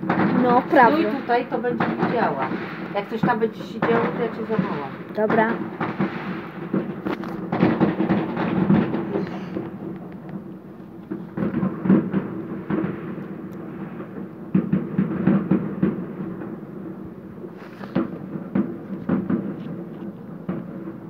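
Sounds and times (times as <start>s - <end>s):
faint firework pops: 0.0s - 16.6s, 17.4s - 21.0s
distant fireworks rumble: 0.0s - 21.0s.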